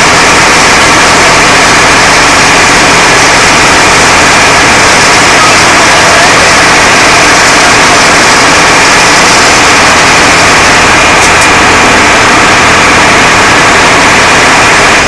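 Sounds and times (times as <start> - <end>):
diesel engine running: 0.0 - 15.0
water jet hissing: 0.0 - 15.0.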